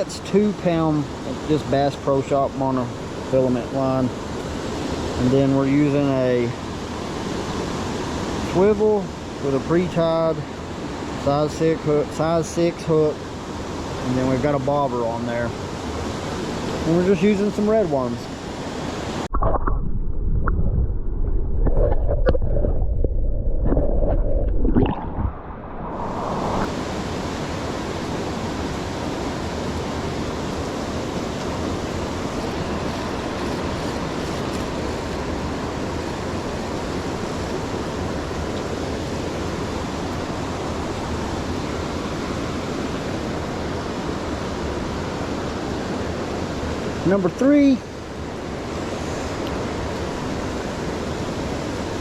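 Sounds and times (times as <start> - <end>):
creek water rushing: 0.0 - 19.3, 24.7 - 52.0.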